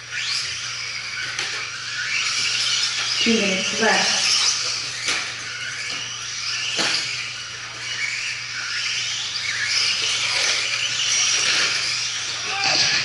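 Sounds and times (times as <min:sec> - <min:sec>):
toy truck motors whining: 0:00.0 - 0:13.0.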